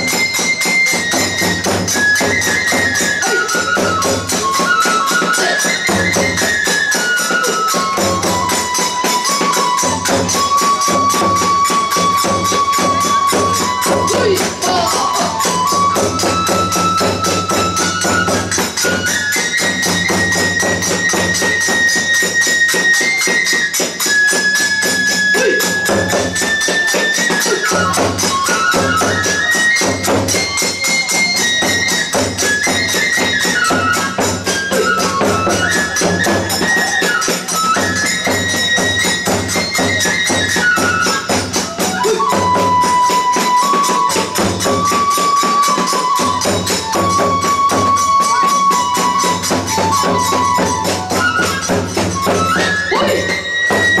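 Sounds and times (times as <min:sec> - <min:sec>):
bamboo flute melody: 0:00.0 - 0:54.0
small hand cymbals clashing: 0:00.0 - 0:54.0
taiko drums beating: 0:00.0 - 0:54.0.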